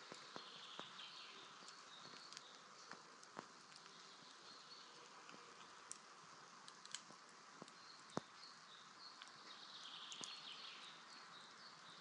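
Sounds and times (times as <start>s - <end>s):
fire popping and crackling: 0.0s - 11.6s
embers hissing: 0.0s - 12.0s.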